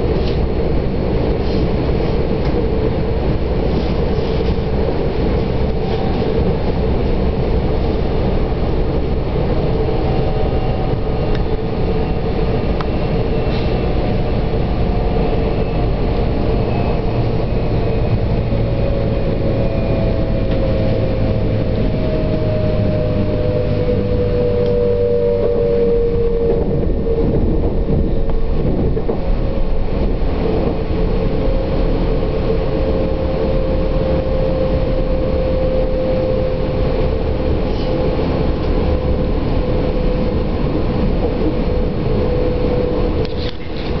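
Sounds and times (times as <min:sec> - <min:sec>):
train rumbling on tracks: 0:00.0 - 0:44.0.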